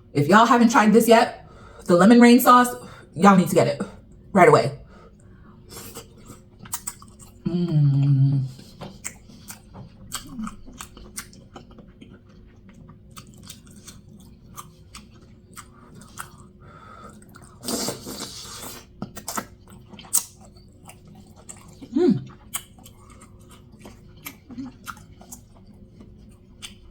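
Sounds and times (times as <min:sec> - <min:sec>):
person chewing and lip smacking: 0:05.2 - 0:26.9.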